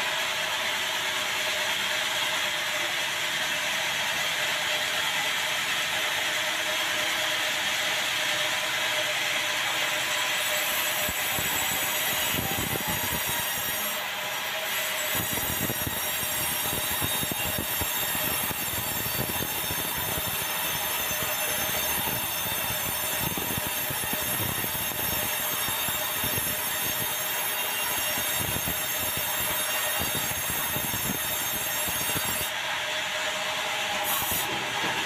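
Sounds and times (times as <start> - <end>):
high ringing saw blade whine: 0.0 - 34.5
band saw cutting log: 5.6 - 35.0.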